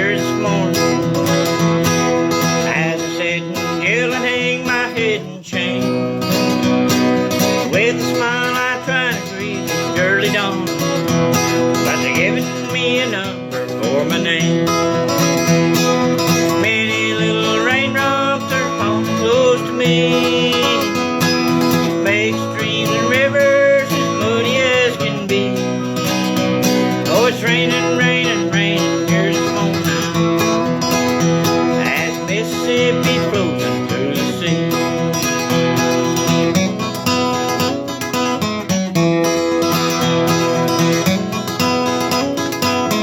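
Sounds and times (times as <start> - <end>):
country acoustic guitar music: 0.0 - 43.0.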